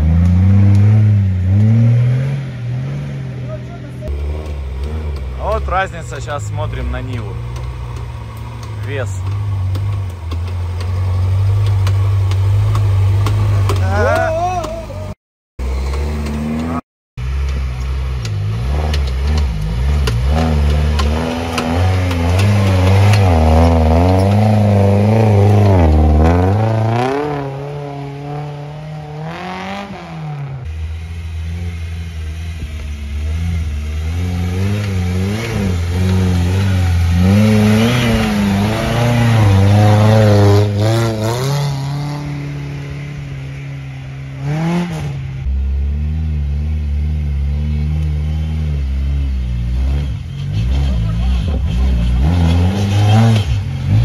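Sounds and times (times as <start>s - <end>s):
engine revving under load: 0.0s - 54.0s.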